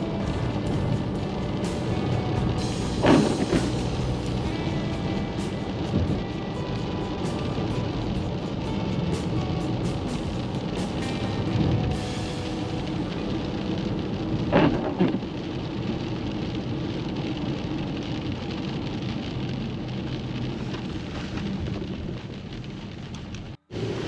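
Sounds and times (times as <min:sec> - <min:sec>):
steady rain: 0:00.0 - 0:24.0
thunder crack: 0:00.0 - 0:24.0.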